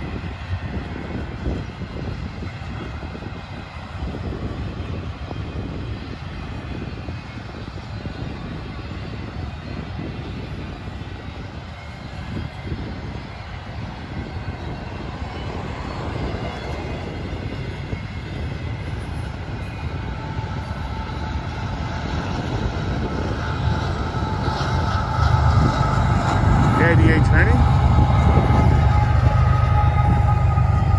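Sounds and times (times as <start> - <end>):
diesel locomotive engine drone: 0.0 - 30.9.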